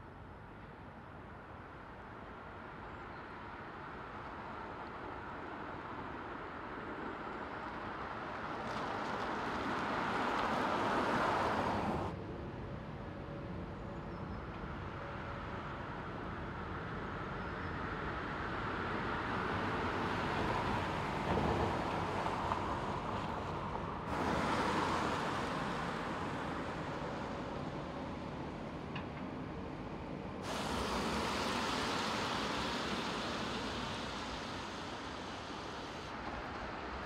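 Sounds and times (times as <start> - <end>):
car tyre and road noise: 3.4 - 12.2, 15.2 - 37.0.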